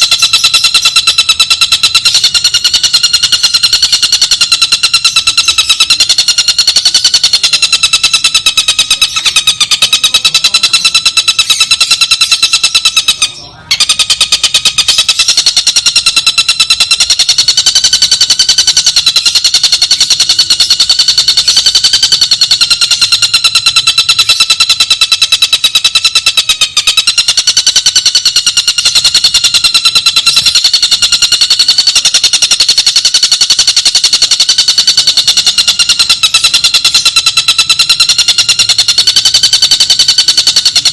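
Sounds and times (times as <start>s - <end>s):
kingfisher high-pitched trill: 0.0s - 40.9s.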